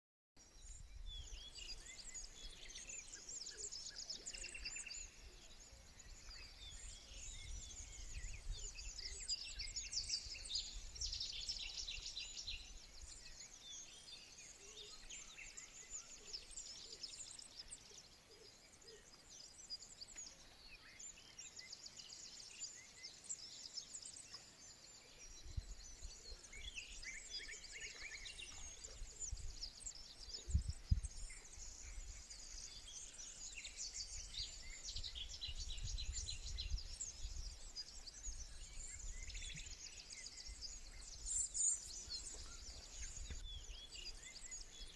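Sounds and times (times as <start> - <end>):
small birds chirping: 0.4 - 44.9.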